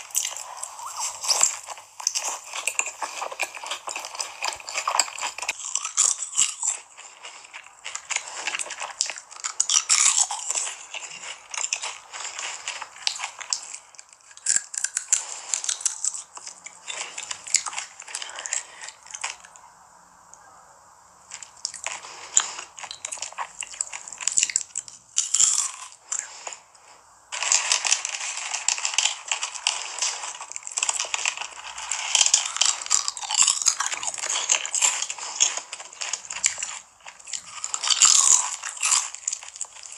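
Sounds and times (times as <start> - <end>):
person chewing crunchy food: 0.0 - 19.6, 21.2 - 39.9.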